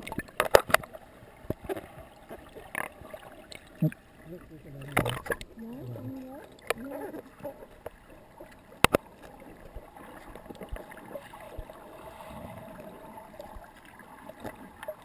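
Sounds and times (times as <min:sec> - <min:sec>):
muffled underwater water wash: 0:00.0 - 0:15.0
faint gurgling: 0:01.6 - 0:15.0.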